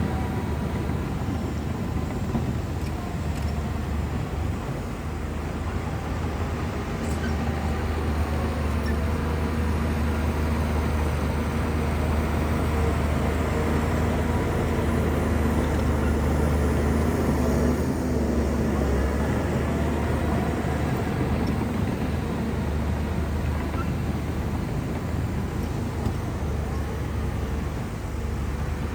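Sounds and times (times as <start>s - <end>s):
bulldozer diesel engine rumbling: 0.0s - 28.9s.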